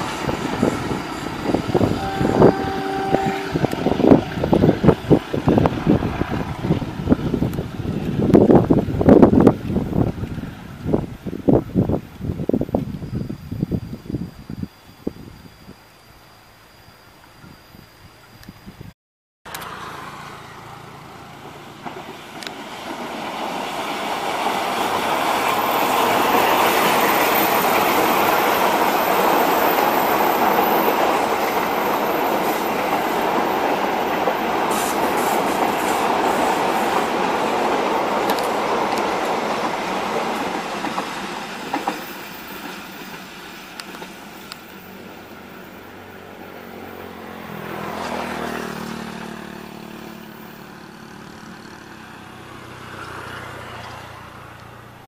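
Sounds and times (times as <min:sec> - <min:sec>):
train wheels on rail: 0:00.0 - 0:15.7, 0:19.5 - 0:55.0.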